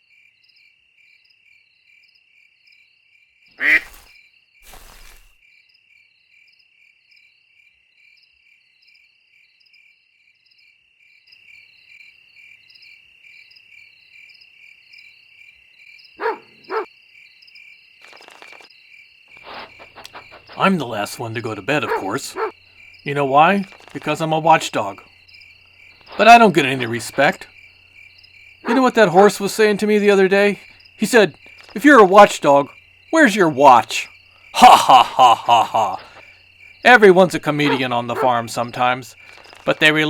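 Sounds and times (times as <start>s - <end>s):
frogs chirping: 0.0s - 6.6s, 7.2s - 40.0s
crickets chirping: 0.0s - 40.0s.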